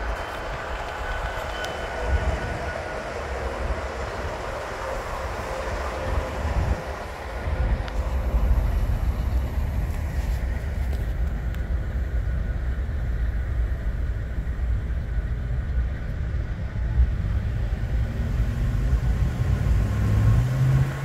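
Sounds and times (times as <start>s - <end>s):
freight train rumble: 0.0s - 21.0s
road and wind noise: 0.0s - 21.0s.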